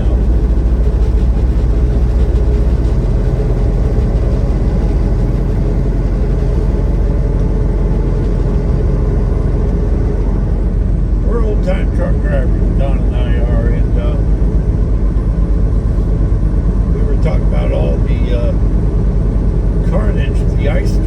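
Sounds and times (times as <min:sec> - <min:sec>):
faint steady hum: 0:00.0 - 0:21.0
road noise: 0:00.0 - 0:21.0
truck diesel engine rumble: 0:00.0 - 0:21.0.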